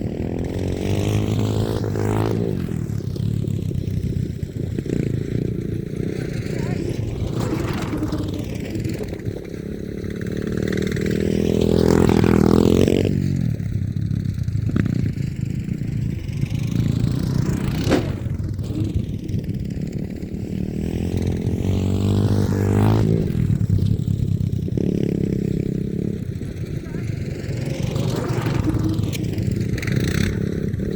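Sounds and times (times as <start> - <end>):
off-road vehicle engine revving: 0.0 - 30.9.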